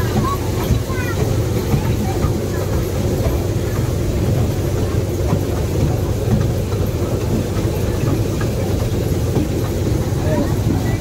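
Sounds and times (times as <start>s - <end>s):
toy train rumbling: 0.0s - 11.0s.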